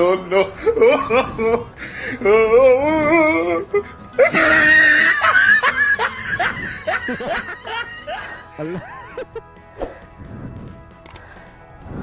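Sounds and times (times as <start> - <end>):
person laughing loudly: 0.0 - 10.0.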